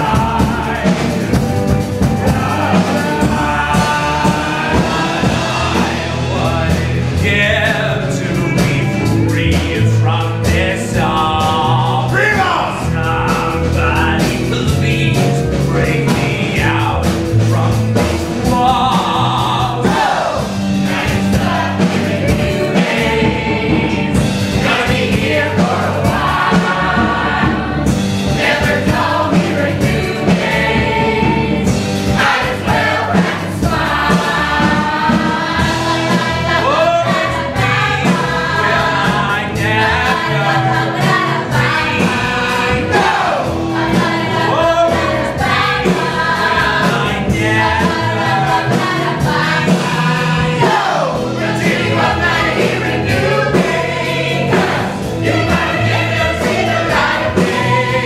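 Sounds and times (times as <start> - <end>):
group singing with instruments: 0.0 - 58.0.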